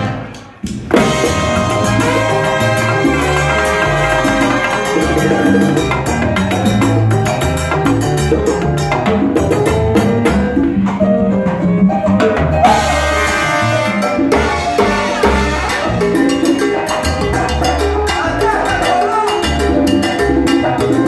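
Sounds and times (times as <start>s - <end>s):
live salsa band playing: 0.0s - 21.0s.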